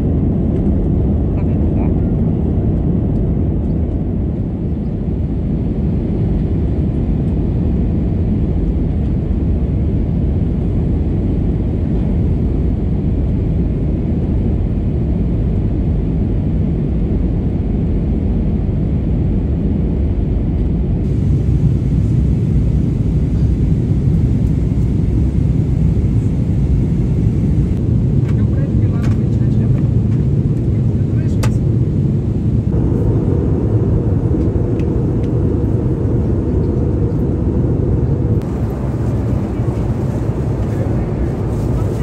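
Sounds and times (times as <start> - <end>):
jet engine and airflow rumble: 0.0 - 42.0.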